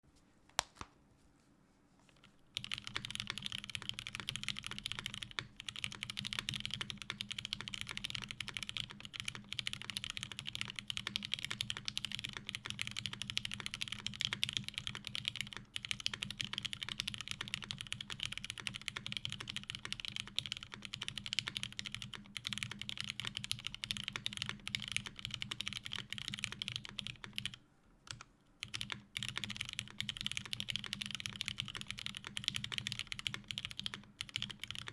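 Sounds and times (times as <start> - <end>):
fast mechanical keyboard typing: 2.6 - 34.9.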